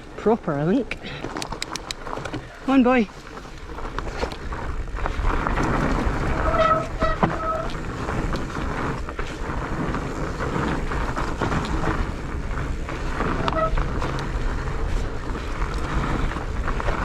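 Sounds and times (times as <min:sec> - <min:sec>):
bike knocks and rattles: 0:01.1 - 0:17.0
wind on microphone: 0:01.2 - 0:17.0.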